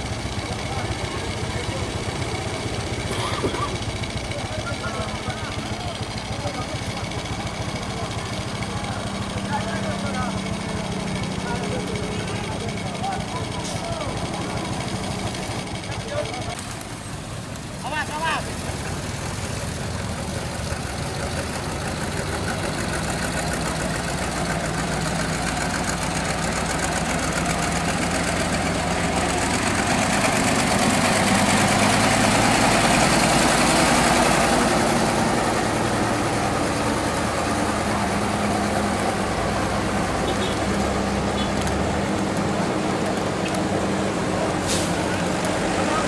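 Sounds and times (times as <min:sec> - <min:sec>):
diesel truck engine passing: 0:00.0 - 0:46.0.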